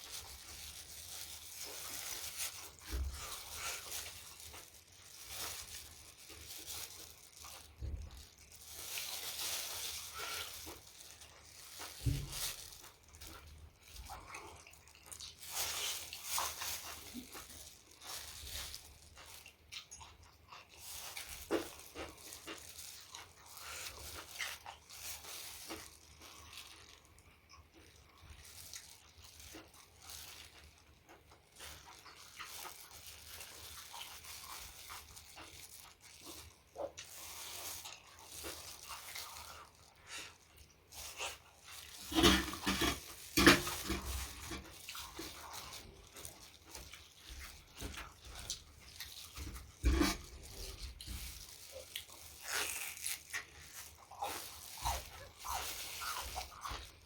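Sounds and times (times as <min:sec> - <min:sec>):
wet chewing and smacking: 0:00.0 - 0:57.0.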